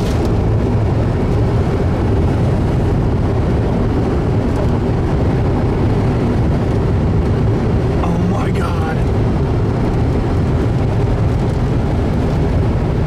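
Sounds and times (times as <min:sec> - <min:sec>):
strong wind blowing: 0:00.0 - 0:13.0.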